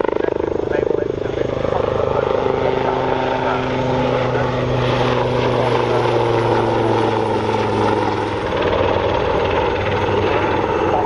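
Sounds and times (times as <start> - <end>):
helicopter rotor and engines: 0.0 - 11.0.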